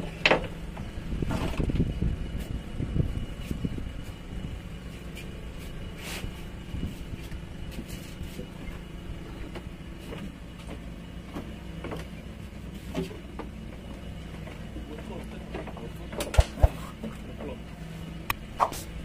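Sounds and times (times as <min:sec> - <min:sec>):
outboard boat engine idling: 0:01.8 - 0:19.0.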